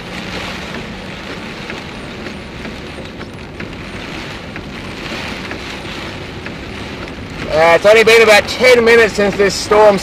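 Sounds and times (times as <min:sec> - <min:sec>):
rain and tyres hissing in car: 0:00.0 - 0:10.0.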